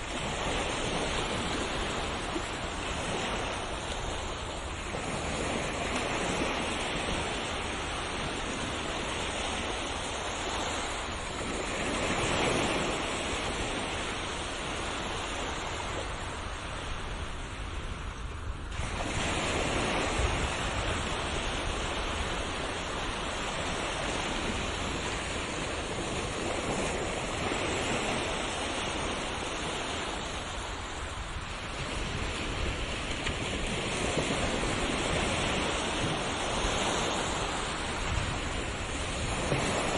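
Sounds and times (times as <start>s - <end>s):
ocean surf washing on shore: 0.0s - 39.9s.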